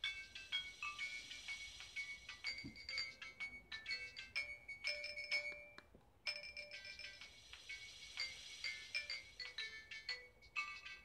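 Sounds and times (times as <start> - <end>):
phone ringtone melody: 0.0 - 11.0.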